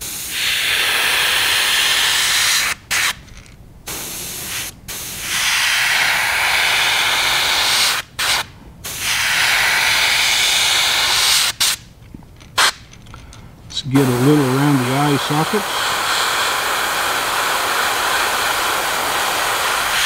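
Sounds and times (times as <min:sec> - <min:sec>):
airbrush spraying hiss: 0:00.0 - 0:03.2, 0:03.9 - 0:11.8, 0:13.8 - 0:20.0.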